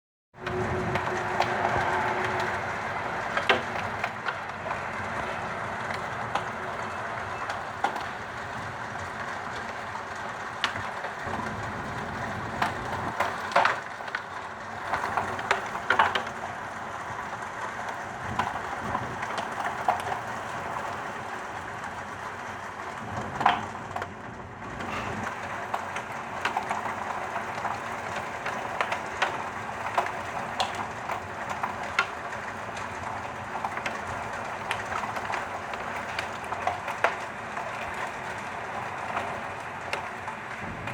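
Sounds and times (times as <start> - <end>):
hailstones striking: 0.4 - 40.9
heavy rain rushing: 0.4 - 40.9.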